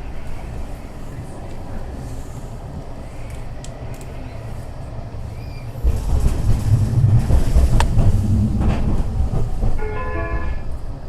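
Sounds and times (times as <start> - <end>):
tram rumbling on track: 0.0 - 11.0.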